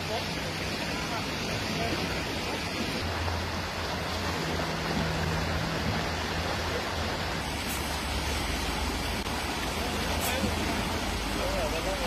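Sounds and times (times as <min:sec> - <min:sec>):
floodwater rushing and churning: 0:00.0 - 0:12.0
low steady rumble: 0:00.0 - 0:12.0.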